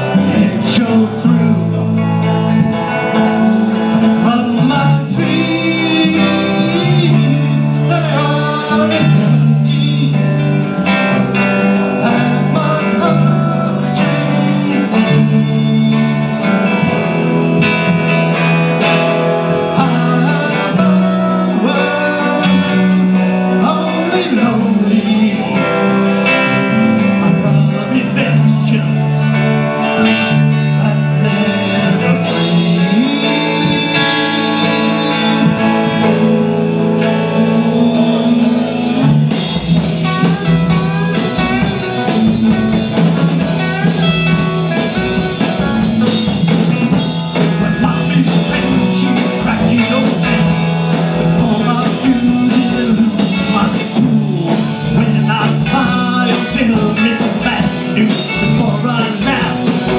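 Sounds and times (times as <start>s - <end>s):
drum kit: 0.0s - 59.9s
live band playing: 0.0s - 59.9s.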